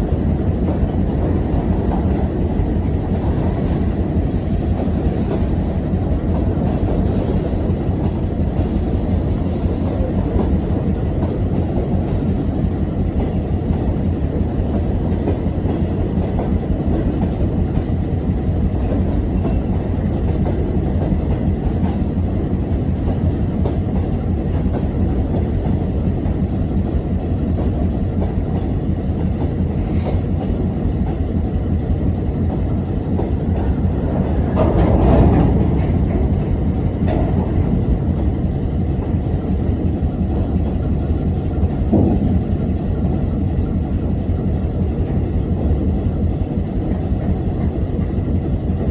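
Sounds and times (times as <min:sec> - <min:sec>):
freight train passing: 0:00.0 - 0:48.9.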